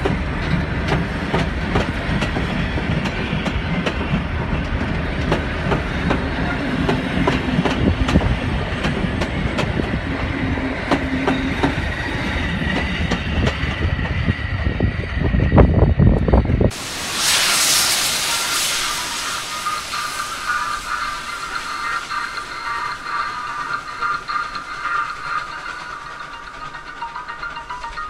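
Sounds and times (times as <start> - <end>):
train wheels clicking over joints: 0.0 - 14.3, 17.4 - 28.0
steady train rumble: 0.0 - 28.0.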